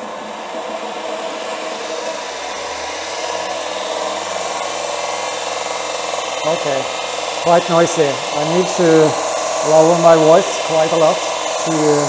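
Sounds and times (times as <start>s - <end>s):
belt sander and grinder whirring: 0.0s - 12.0s.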